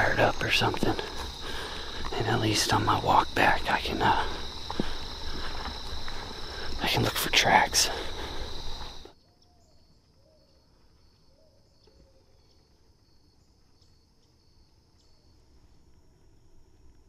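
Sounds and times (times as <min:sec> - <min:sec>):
insects chirping trill: 0:00.0 - 0:17.0.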